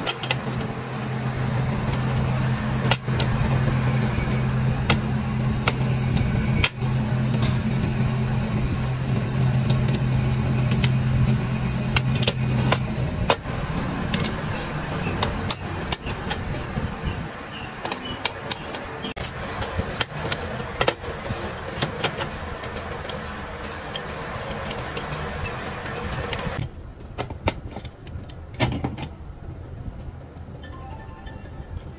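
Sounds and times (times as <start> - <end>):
workshop background noise: 0.0 - 31.9.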